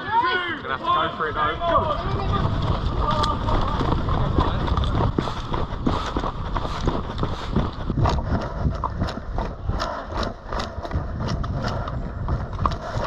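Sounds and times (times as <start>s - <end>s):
hurried footsteps on ground: 0.0s - 13.0s
low rumbling handling noise: 1.4s - 13.0s.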